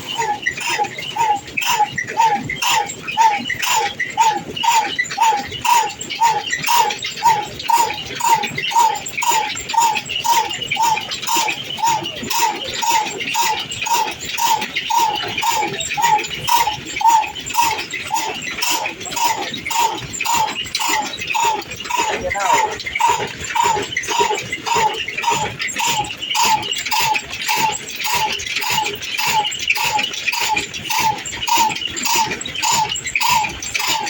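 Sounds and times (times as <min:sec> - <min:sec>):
diesel engine knocking steadily: 0:00.0 - 0:34.0.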